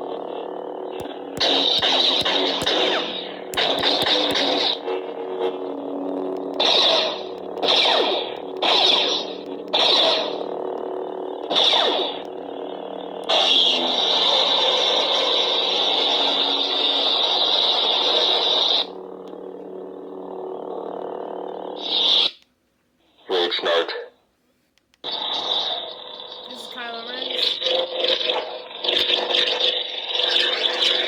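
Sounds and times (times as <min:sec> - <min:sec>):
harsh lightsaber effect: 0:00.0 - 0:22.4, 0:25.0 - 0:31.0
toy lightsaber electric hum: 0:00.0 - 0:22.5, 0:25.0 - 0:31.0.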